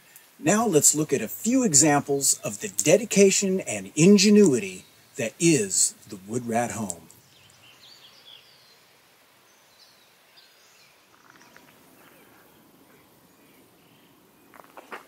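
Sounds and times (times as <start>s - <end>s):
distant bird chirps: 1.1s - 15.0s.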